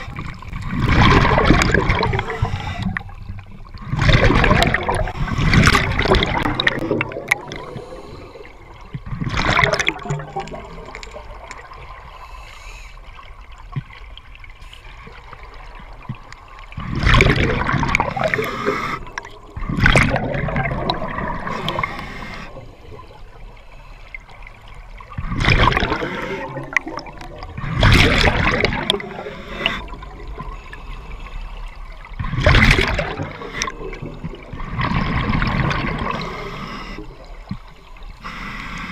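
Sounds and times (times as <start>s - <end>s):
underwater bubbles rushing: 0.0s - 12.2s, 13.0s - 38.9s.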